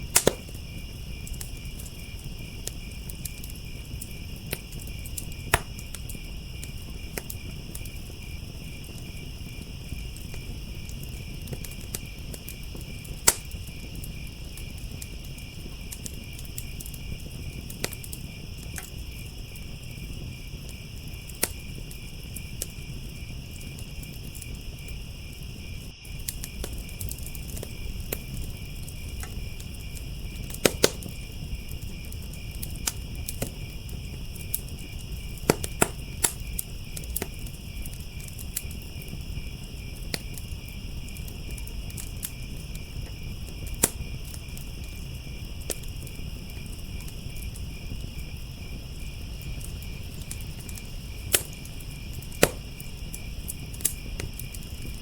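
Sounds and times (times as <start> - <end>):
crickets chirping: 0.0 - 55.0
fire crackling and popping: 0.0 - 55.0.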